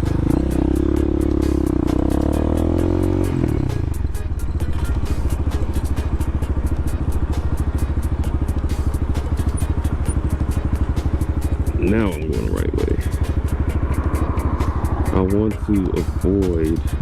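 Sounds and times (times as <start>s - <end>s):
dirt bike engine: 0.0s - 17.0s.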